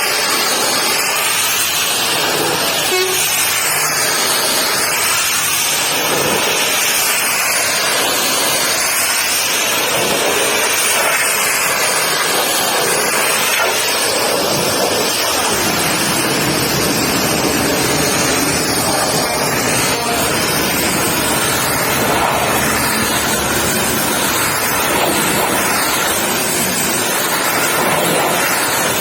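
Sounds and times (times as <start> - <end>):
pressure washer spraying water: 0.0 - 29.0.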